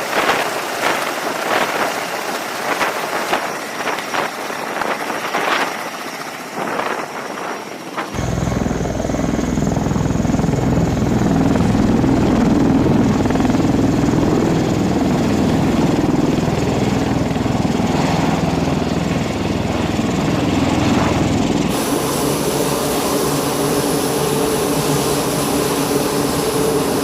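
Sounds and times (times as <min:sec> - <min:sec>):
aircraft engines rumbling: 0:00.0 - 0:27.0.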